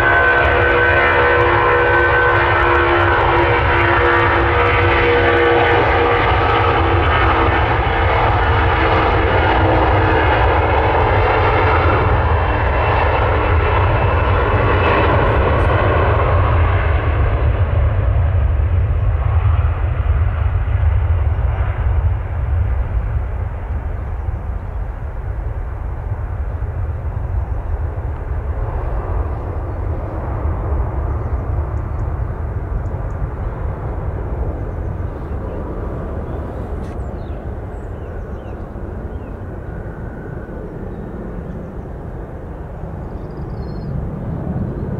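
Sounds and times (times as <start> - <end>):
deep jet rumble: 0.0 - 44.9
jet engine whine: 0.0 - 44.9.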